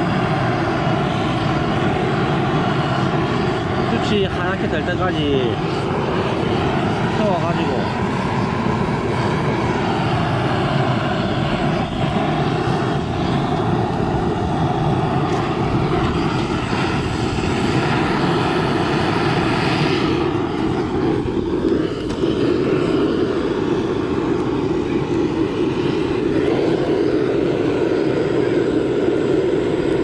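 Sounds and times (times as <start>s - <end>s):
gas torch flame rushing: 0.0s - 30.0s.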